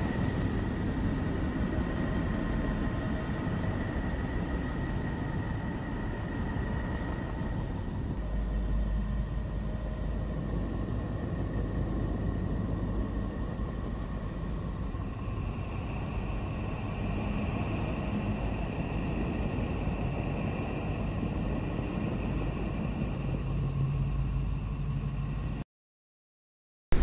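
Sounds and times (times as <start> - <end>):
rumbling drone: 0.0 - 25.6.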